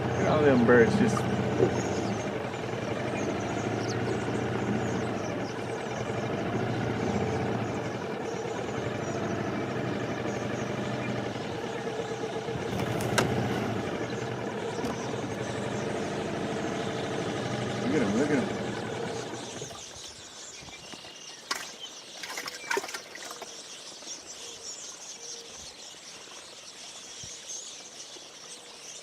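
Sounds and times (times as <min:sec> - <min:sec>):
small boat motor running: 0:00.0 - 0:24.8.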